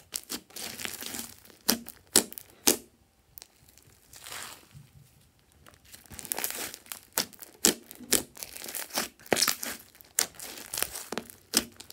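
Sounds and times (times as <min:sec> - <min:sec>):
slime squelching: 0:00.0 - 0:04.7, 0:05.6 - 0:11.9.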